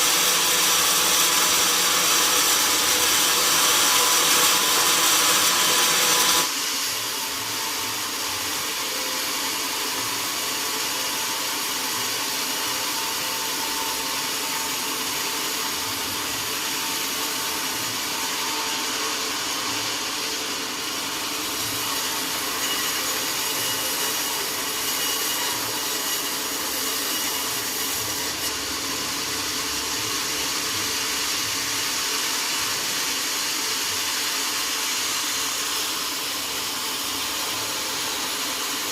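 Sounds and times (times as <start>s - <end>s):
machine whirring: 0.0s - 38.9s
saw cutting wood: 0.0s - 38.9s.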